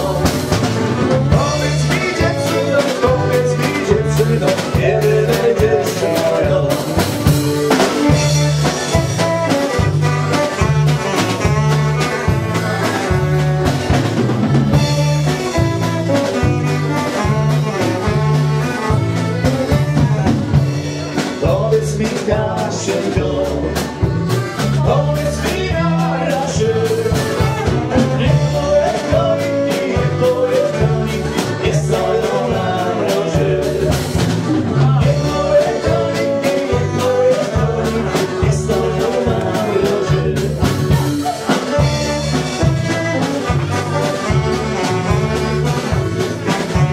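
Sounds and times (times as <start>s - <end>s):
live folk dance band: 0.0s - 46.9s.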